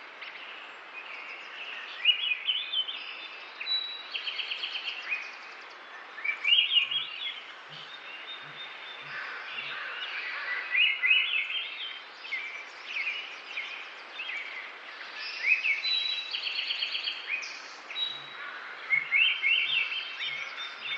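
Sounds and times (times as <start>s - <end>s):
faint outdoor hiss: 0.0s - 20.9s
songbirds chirping and singing: 0.1s - 20.9s.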